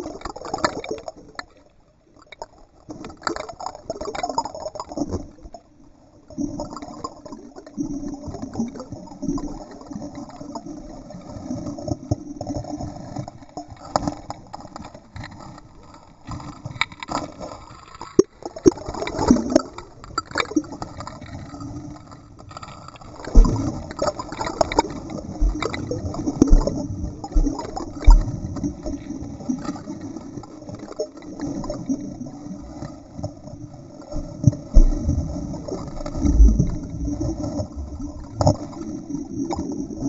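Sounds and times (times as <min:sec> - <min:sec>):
muffled underwater splashing: 0:02.3 - 0:40.0.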